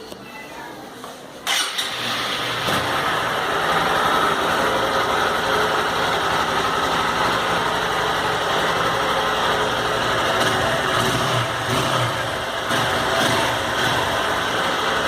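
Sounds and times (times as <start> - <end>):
motorcycle engine idling: 1.9 - 15.0.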